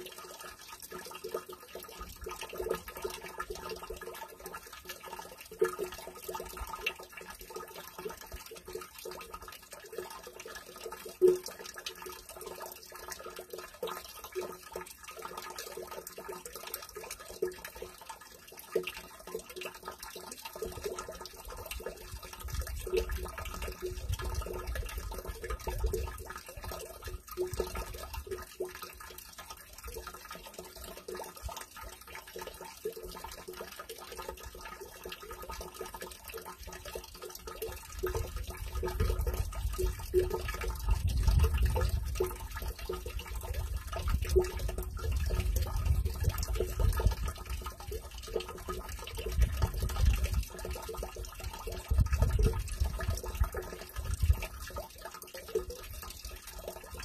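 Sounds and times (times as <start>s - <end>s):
hollow plinking splashes: 0.0s - 57.0s
water trickling into stone basin: 0.0s - 57.0s.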